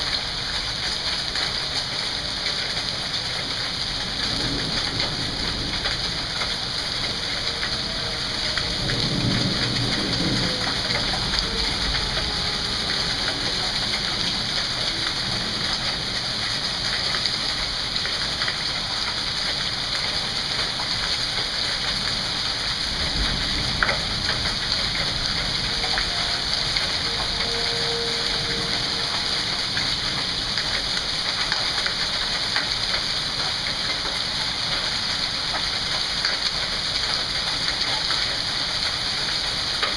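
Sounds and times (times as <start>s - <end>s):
hail ticks: 0.0s - 39.9s
rain and hail hissing: 0.0s - 39.9s.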